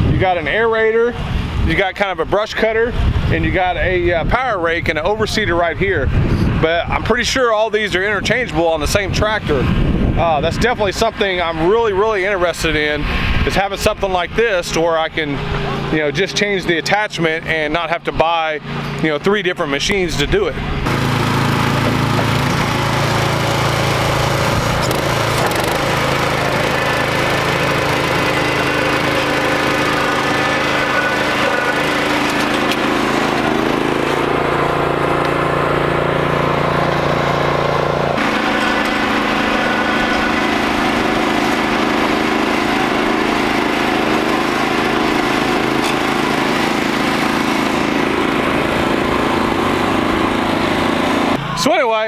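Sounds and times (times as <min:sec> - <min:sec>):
small gas engine running: 0:08.0 - 0:17.8, 0:18.5 - 0:19.5, 0:20.6 - 0:52.0.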